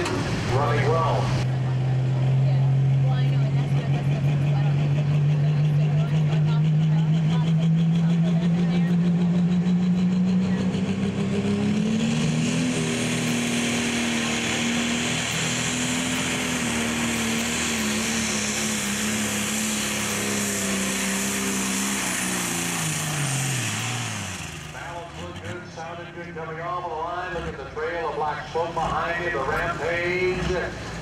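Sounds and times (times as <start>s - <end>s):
diesel engine running flat out: 0.0s - 31.0s.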